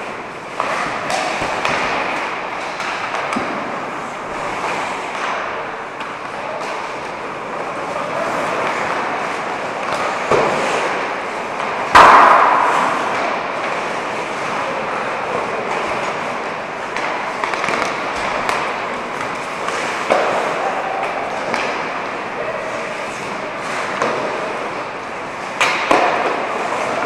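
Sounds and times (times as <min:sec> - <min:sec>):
hockey clacks and scrapes: 0:00.0 - 0:27.0
ice rink noise: 0:00.0 - 0:27.0.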